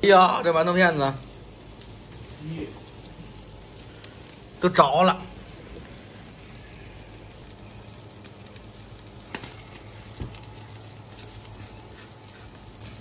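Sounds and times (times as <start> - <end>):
fat crackling and popping: 0.0 - 13.0
food sizzling on a grill: 0.0 - 13.0.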